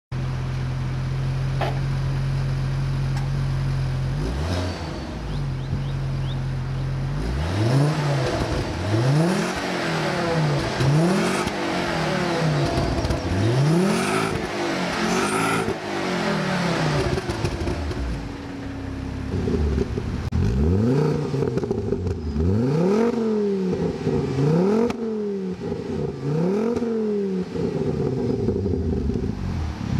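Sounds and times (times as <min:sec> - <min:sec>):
car engine idling and revving: 0:00.1 - 0:29.9.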